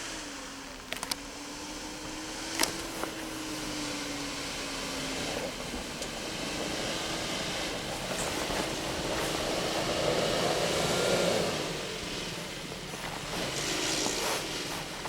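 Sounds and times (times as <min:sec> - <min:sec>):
off-road vehicle running: 0:00.0 - 0:15.0.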